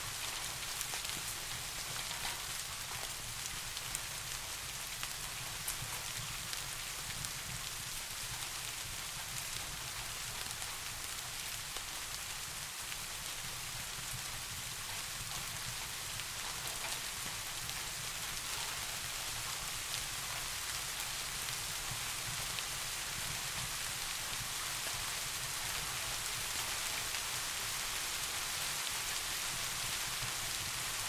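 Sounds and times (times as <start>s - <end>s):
soft rain falling: 0.0s - 31.0s.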